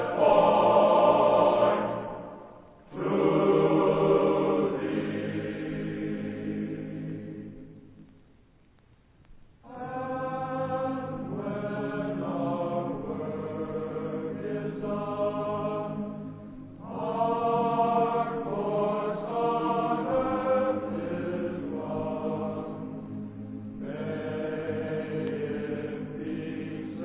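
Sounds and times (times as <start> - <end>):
choir singing in harmony: 0.0 - 7.8, 9.7 - 27.0.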